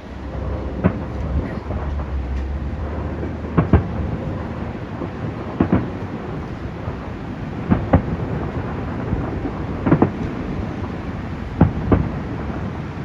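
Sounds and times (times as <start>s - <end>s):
continuous low rumble: 0.0s - 13.0s
fireworks bangs: 0.0s - 13.0s.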